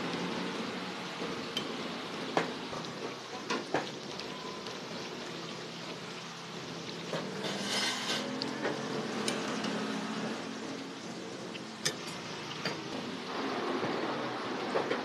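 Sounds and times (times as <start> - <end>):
hot oil sizzling and bubbling: 0.0 - 15.0.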